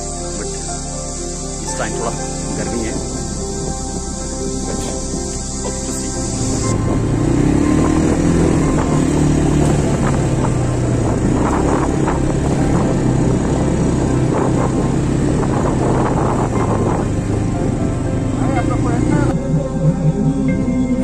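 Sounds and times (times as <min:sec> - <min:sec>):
quad bike engines droning: 0:02.4 - 0:21.0.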